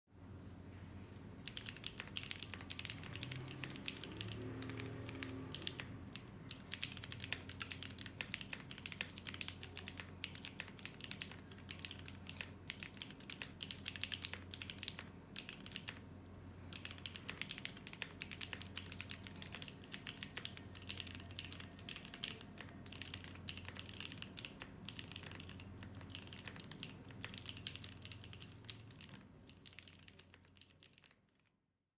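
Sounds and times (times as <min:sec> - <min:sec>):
mechanical keyboard typing: 0:01.4 - 0:31.5.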